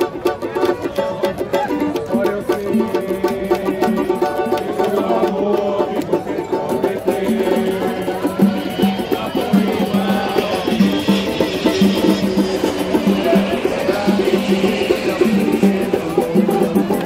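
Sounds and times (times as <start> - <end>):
cavaquinho strumming: 0.0 - 17.0
hand percussion: 0.0 - 17.0
samba music: 0.0 - 17.0.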